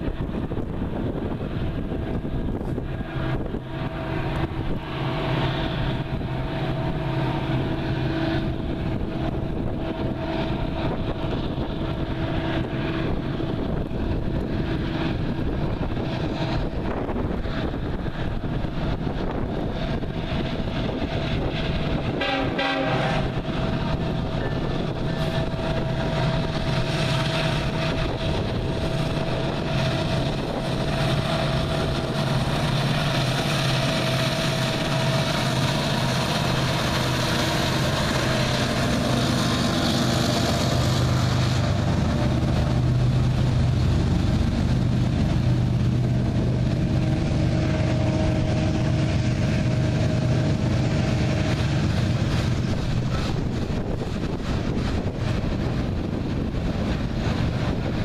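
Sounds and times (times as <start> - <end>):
diesel locomotives running: 0.0 - 58.0.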